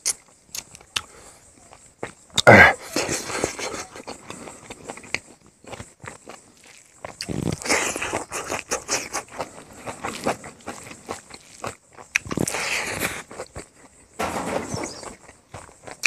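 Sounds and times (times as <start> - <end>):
crunchy bites: 0.0 - 2.7, 3.4 - 16.0
wet chewing and smacking: 0.0 - 14.1.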